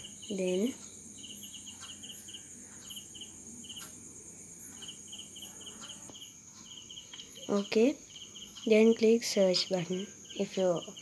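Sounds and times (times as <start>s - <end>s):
crickets chirping: 0.0s - 11.0s
high insect drone: 0.0s - 11.0s.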